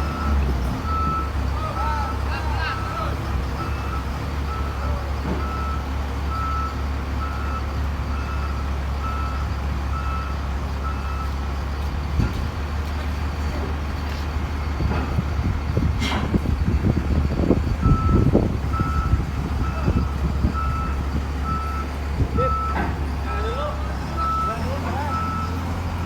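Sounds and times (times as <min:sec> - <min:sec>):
reversing alarm beeping: 0:00.0 - 0:11.4, 0:14.6 - 0:26.0
diesel engine humming: 0:00.0 - 0:26.0.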